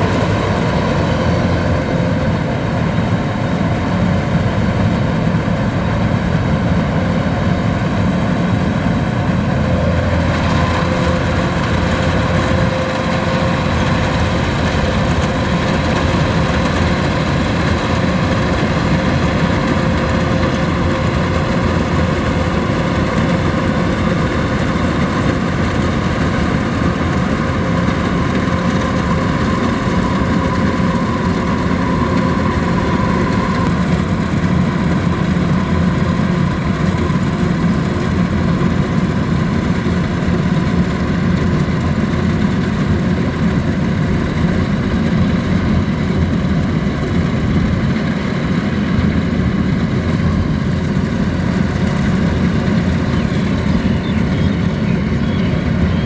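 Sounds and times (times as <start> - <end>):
combine harvester engine drone: 0.0 - 56.0
high steady whine: 0.0 - 56.0.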